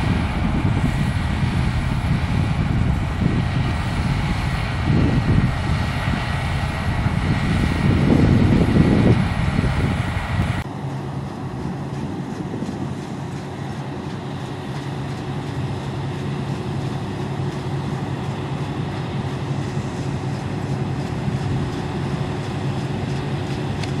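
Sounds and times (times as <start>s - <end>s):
combine harvester droning: 0.0s - 24.0s
deep rumble: 0.0s - 24.0s.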